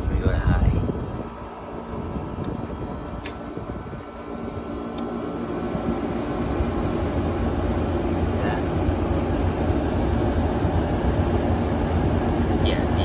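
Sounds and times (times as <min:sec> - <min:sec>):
air conditioner fan rushing: 0:00.0 - 0:13.0.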